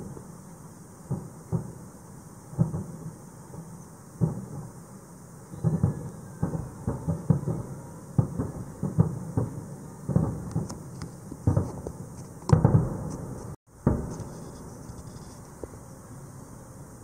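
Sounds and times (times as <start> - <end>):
fireworks bangs echoing: 1.1 - 4.8, 5.5 - 15.9.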